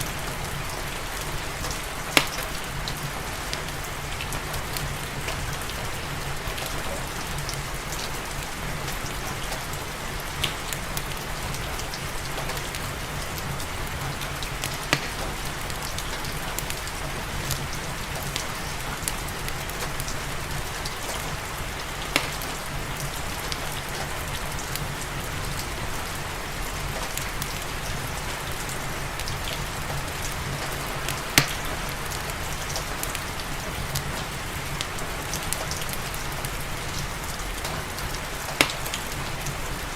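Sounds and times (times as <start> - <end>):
fireplace crackling and popping: 0.0 - 39.9
steady rain hissing: 0.0 - 39.9.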